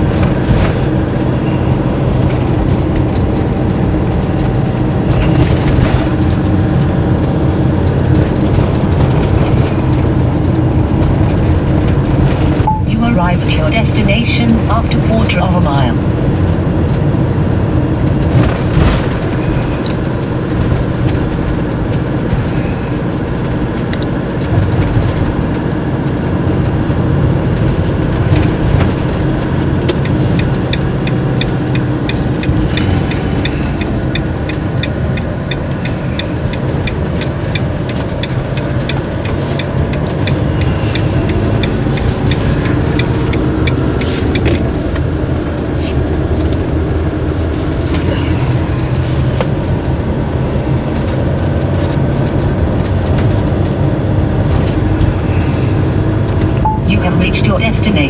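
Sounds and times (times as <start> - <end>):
diesel engine: 0.0 - 58.0
road rumble: 0.0 - 58.0.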